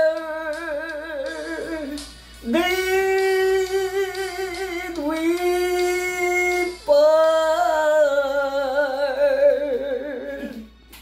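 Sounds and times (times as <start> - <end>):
man singing long notes: 0.0 - 10.8.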